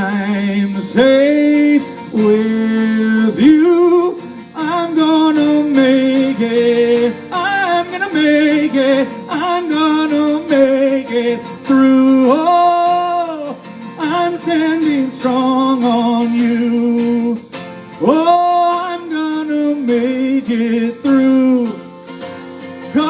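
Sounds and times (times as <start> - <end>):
guitar accompaniment: 0.0 - 23.0
person singing long notes: 0.0 - 23.0.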